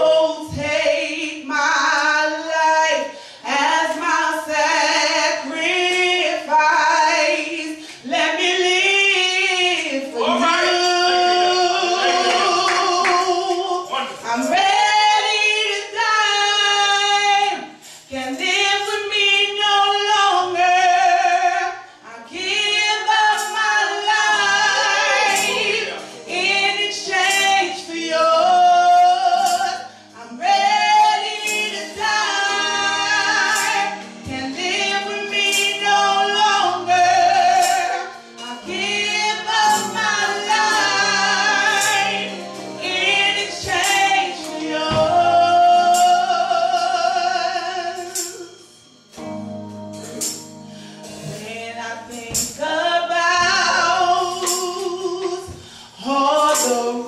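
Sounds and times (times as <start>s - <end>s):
woman singing into microphone: 0.0s - 49.0s, 51.1s - 57.0s.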